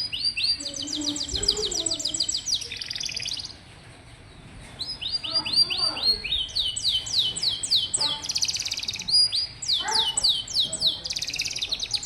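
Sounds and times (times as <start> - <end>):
canary singing in fast trills: 0.0 - 12.0.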